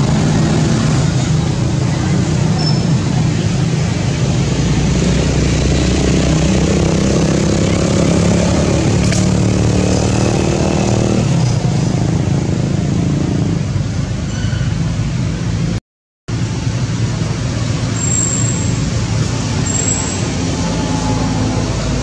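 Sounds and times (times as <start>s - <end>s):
traffic noise: 0.0s - 22.0s
vehicle engine humming: 0.0s - 22.0s.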